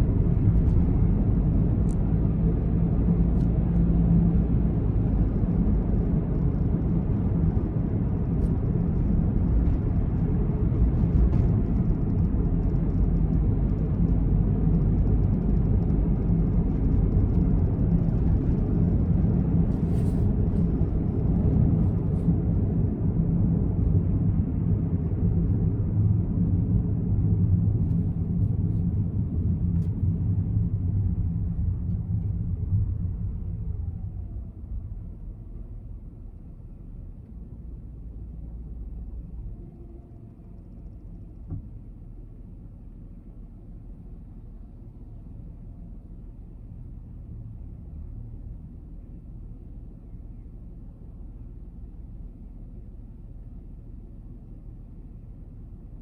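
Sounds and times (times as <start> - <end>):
car engine rumbling from inside: 0.0 - 56.0.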